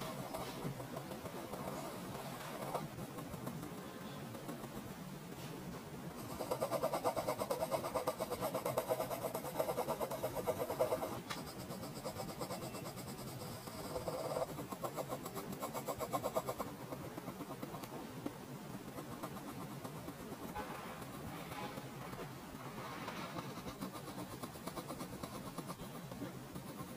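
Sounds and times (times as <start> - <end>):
pencil scratching on paper: 0.0 - 4.9, 6.2 - 17.9, 18.8 - 21.9, 23.0 - 26.9.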